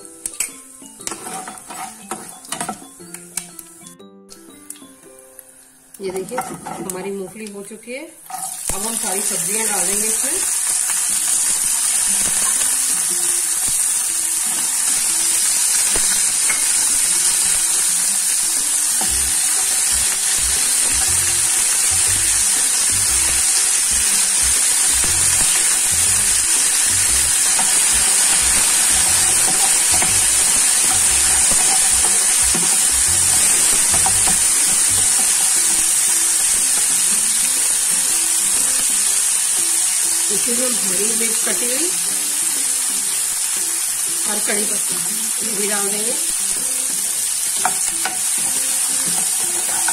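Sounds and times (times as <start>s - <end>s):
vegetables sizzling in oil: 0.2s - 49.9s.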